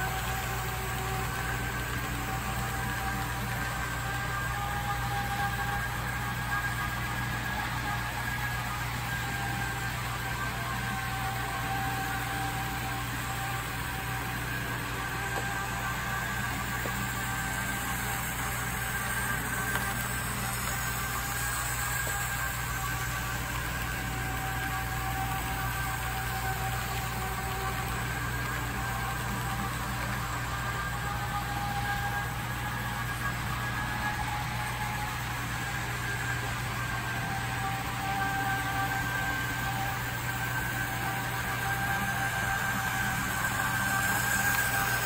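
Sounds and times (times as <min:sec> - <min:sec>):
model train motor whirring: 0:00.0 - 0:45.0.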